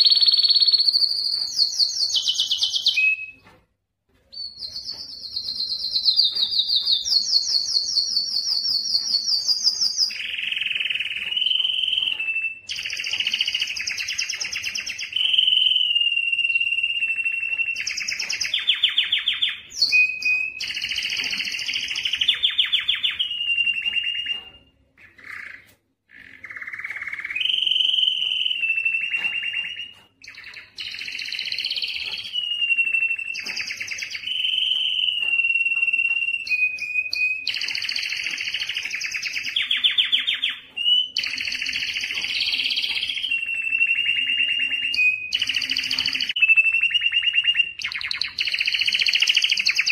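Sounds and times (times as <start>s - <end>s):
canary singing trills: 0.0s - 3.6s, 4.3s - 49.9s.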